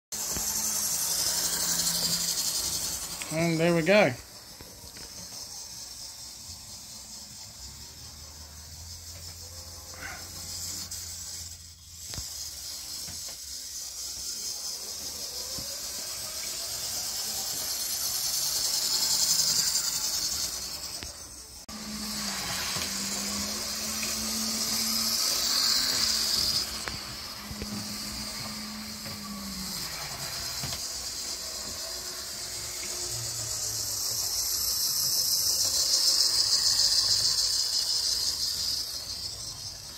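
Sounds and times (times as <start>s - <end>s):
model train motor whirring: 0.2s - 39.9s.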